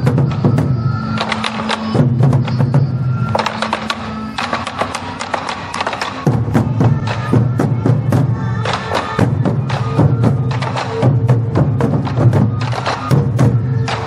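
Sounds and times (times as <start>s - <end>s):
drums beating: 0.0s - 14.0s.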